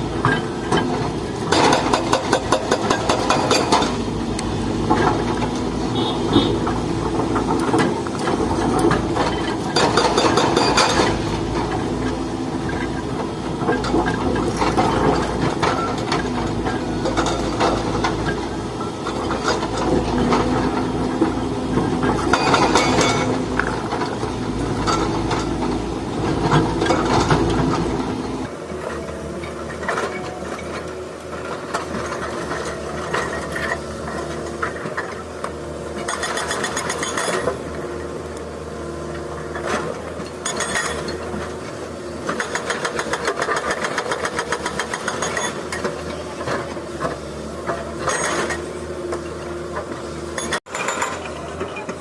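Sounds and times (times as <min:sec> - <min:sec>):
excavator diesel engine under load: 0:00.0 - 0:52.0.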